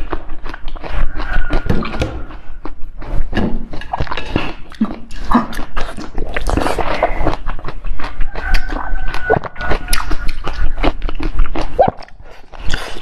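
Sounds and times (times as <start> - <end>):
biting and chewing jelly: 0.0 - 13.0
wet mouth sounds: 0.0 - 13.0.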